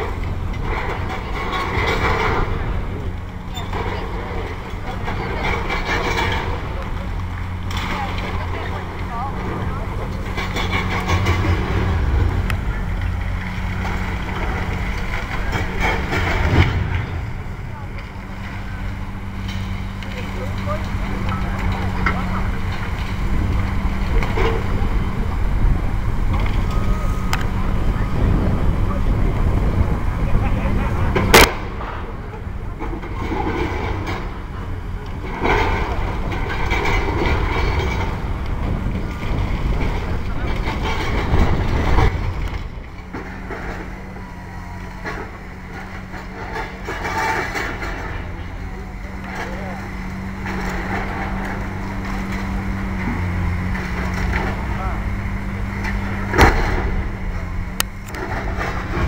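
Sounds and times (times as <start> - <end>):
excavator diesel engine drone: 0.0 - 59.0.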